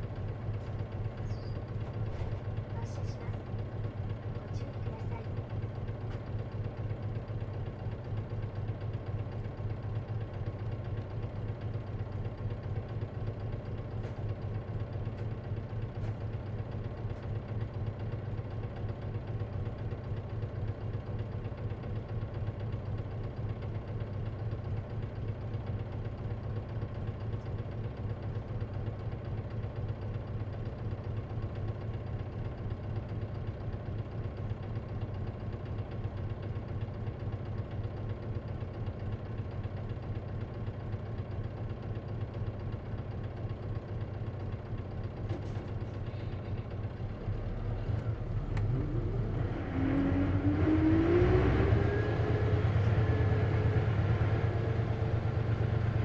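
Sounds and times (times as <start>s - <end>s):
bus diesel engine idling: 0.0s - 49.4s, 51.7s - 56.0s.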